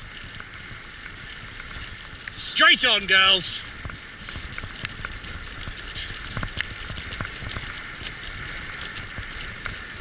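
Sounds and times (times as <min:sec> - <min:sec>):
wheeled rig rattling: 0:00.0 - 0:10.0.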